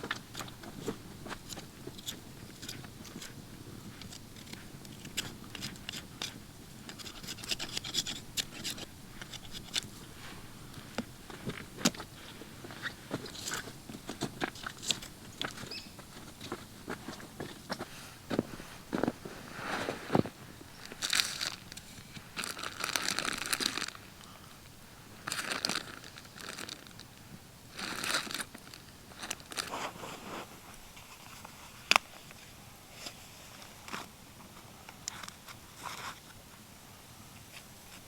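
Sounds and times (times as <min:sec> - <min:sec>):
crinkling and crunching handling: 0:00.0 - 0:36.4.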